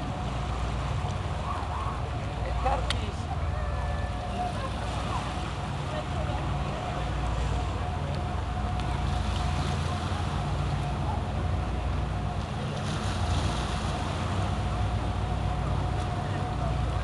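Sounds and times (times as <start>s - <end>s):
boat engines rumbling: 0.0s - 17.0s
thin steady hum: 0.0s - 17.0s
wind and water hissing: 0.0s - 17.0s.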